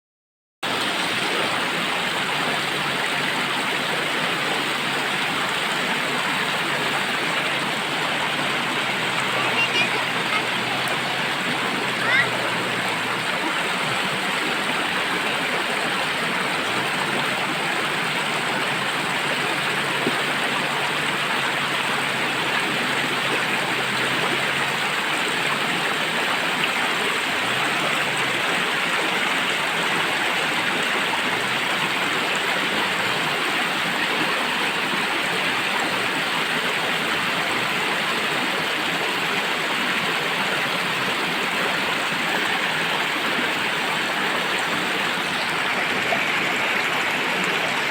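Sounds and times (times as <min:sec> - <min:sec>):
stream rushing over rocks: 0:00.6 - 0:47.9.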